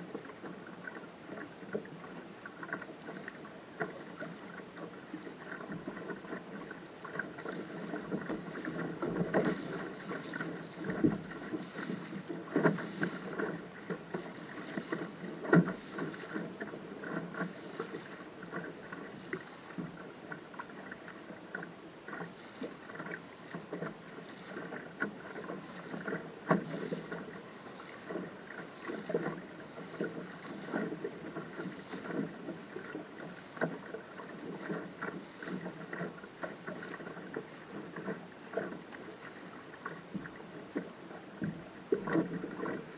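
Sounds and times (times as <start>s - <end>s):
water knocks and splashes: 0.0s - 42.9s
waves lapping against hull: 0.0s - 42.9s.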